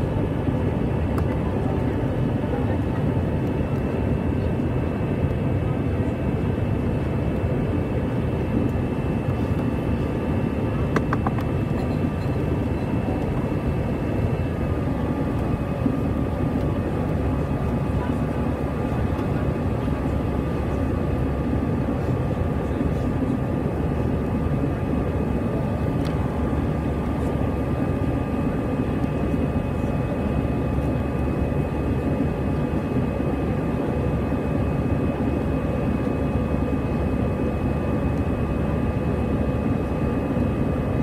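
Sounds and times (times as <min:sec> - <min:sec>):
jet engine roar in cabin: 0:00.0 - 0:41.0.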